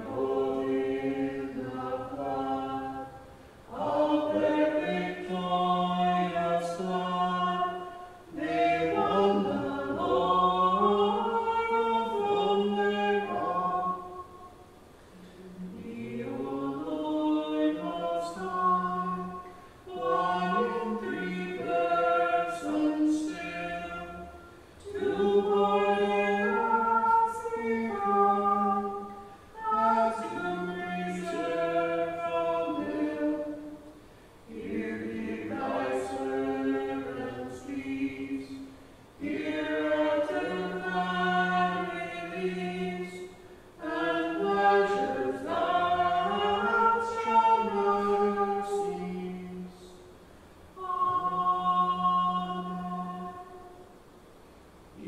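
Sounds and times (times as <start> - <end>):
choir singing chant: 0.0 - 50.1, 50.8 - 53.9.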